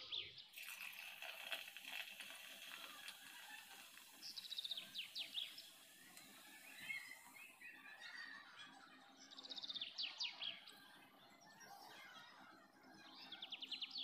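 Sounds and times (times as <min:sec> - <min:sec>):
bird singing faintly: 0:02.5 - 0:14.0.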